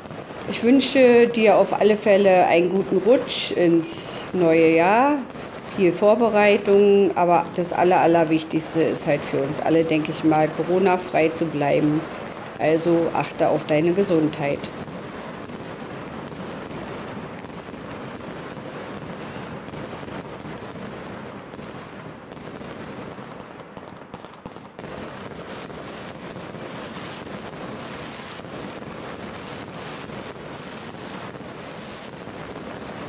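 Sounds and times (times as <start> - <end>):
crackling with pops and clicks: 0.0 - 8.0, 9.0 - 33.0.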